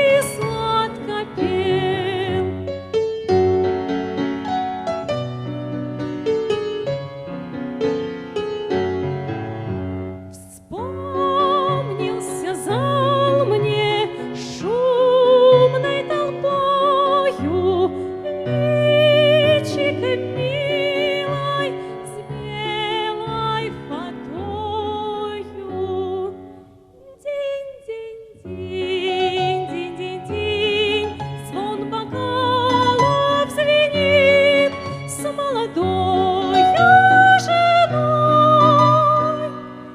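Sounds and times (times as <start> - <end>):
piano accompaniment: 0.0 - 26.8, 28.3 - 39.9.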